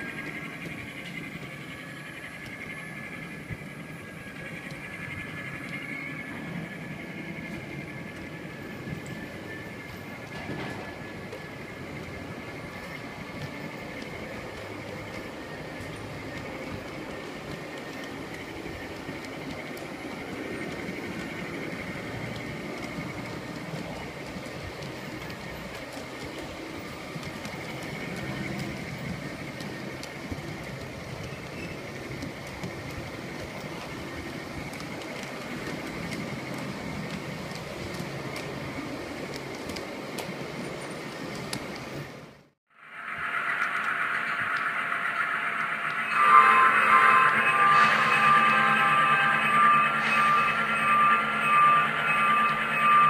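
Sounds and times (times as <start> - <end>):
model train wheels on track: 0.0 - 53.0.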